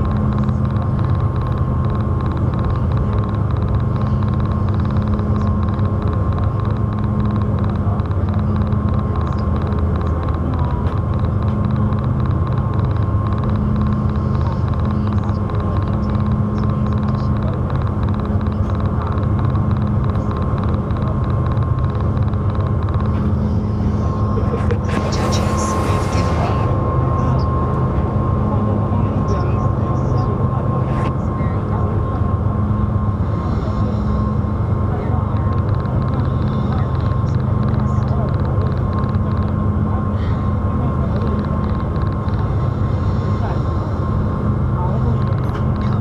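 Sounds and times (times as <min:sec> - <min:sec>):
engines droning: 0:00.0 - 0:46.0.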